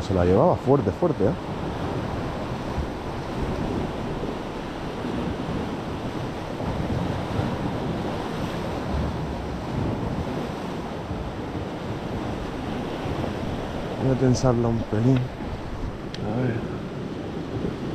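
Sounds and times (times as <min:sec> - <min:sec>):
sea waves washing on shore: 0:00.0 - 0:17.9
wind gusting on microphone: 0:00.0 - 0:17.9.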